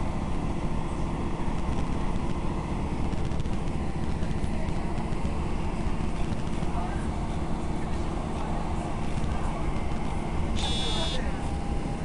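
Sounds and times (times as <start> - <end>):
train running noise inside carriage: 0.0 - 12.0.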